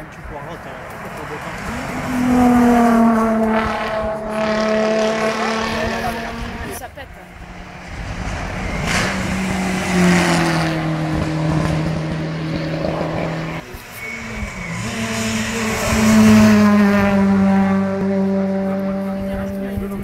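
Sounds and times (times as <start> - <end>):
rally cars passing at high revs: 0.0 - 20.0
rally car accelerating past: 0.9 - 20.0.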